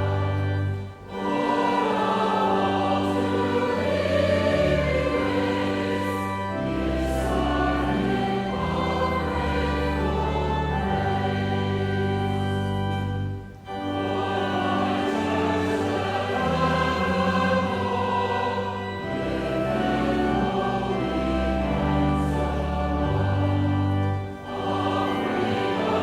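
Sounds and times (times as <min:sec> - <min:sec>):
choir singing a hymn: 0:00.0 - 0:26.0
sustained accompaniment: 0:00.0 - 0:26.0.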